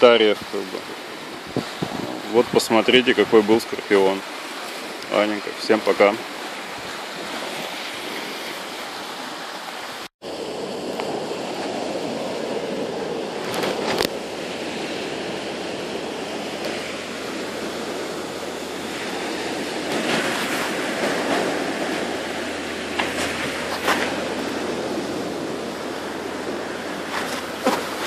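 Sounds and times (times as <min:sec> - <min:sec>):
waves washing on a beach: 0:00.0 - 0:28.0.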